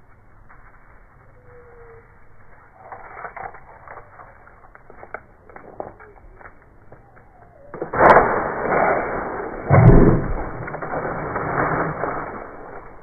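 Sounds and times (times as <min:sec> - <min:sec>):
deep rustling of dry leaves: 0:00.0 - 0:13.0.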